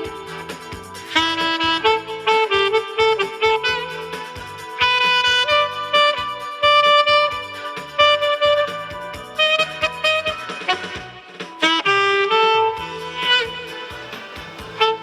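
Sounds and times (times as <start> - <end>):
backing track with drum beat: 0.0 - 15.0
saxophone slow melody: 0.0 - 15.0.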